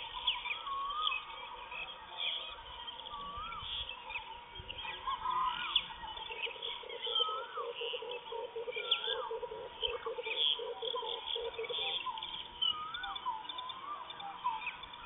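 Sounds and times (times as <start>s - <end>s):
faint steady tone: 0.0s - 15.0s
low rapid pulsing bird call: 0.0s - 15.0s.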